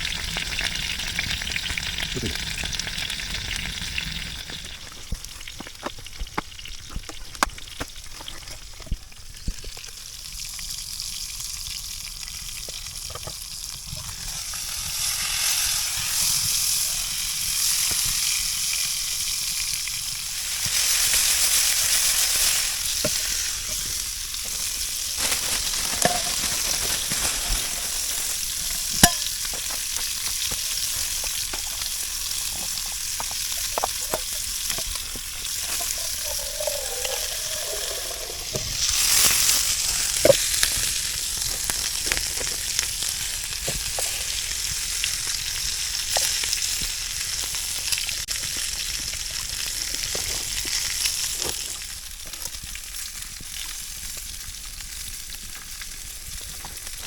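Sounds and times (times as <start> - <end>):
food sizzling in a pan: 0.0 - 57.0
oil pops and crackles: 0.0 - 57.0.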